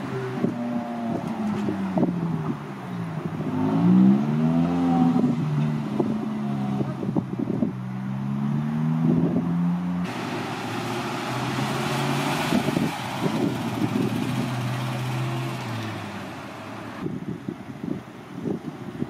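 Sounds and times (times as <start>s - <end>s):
car engine passing slowly: 0.0s - 17.4s.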